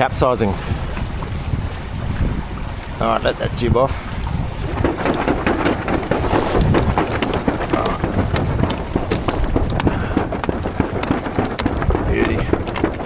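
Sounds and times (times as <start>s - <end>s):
water slapping at hulls: 0.0s - 13.0s
wind buffeting the microphone: 0.0s - 13.0s.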